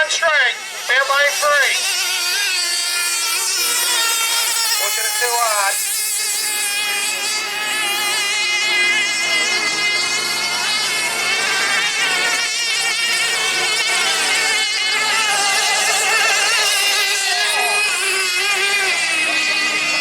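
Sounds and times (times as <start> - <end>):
model racing boats buzzing whine: 0.0 - 20.0.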